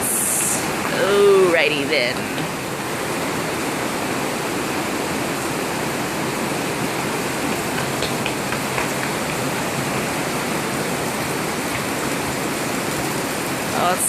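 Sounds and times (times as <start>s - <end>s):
heavy rain pouring: 0.0s - 14.0s
water running and splashing: 0.0s - 14.0s.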